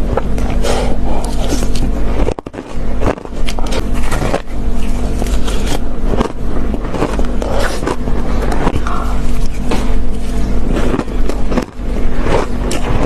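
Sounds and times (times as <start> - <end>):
low steady hum: 0.0 - 13.0
ice crunching being bitten: 0.1 - 13.0.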